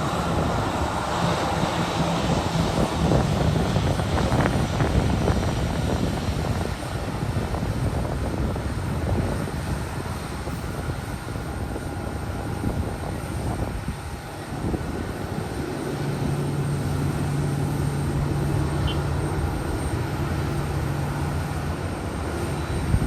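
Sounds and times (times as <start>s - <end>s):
jet airliner engines rumbling: 0.0s - 23.0s.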